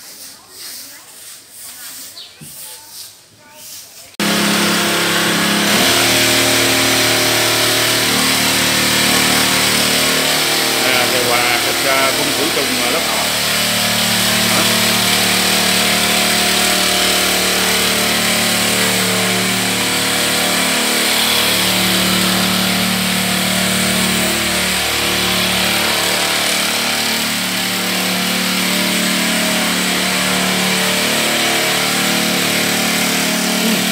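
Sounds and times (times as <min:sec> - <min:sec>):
small sprayer engine running: 0:04.2 - 0:33.9.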